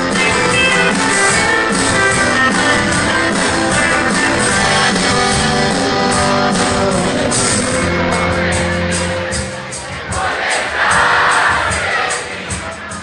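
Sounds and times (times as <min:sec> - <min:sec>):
guitars: 0:00.0 - 0:13.0
rock band playing: 0:00.0 - 0:13.0.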